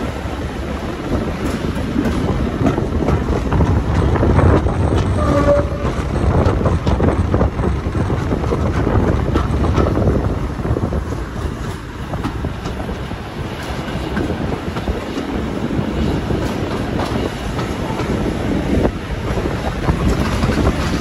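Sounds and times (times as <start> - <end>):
diesel locomotive rumble: 0.0 - 21.0
wheels clicking over rail joints: 0.0 - 21.0.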